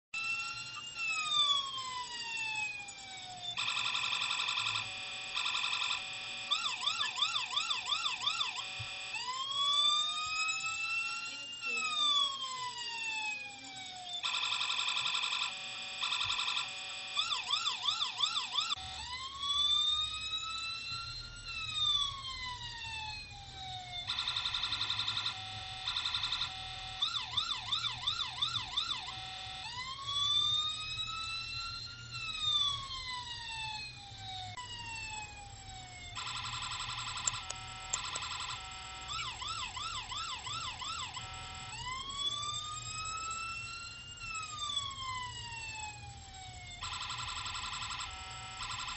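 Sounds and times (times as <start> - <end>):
electronic police siren: 0.2 - 48.9.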